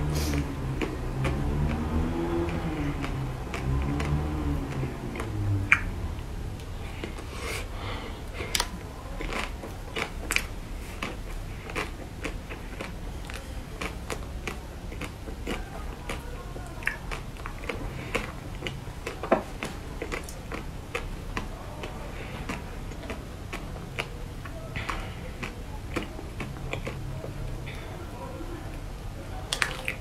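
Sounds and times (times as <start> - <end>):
biting and chewing: 0.0 - 6.2, 8.3 - 27.8.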